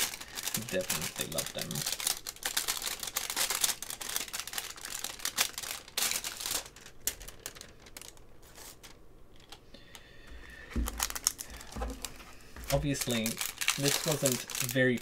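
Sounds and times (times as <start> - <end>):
plastic sleeves crinkling: 0.0 - 15.0.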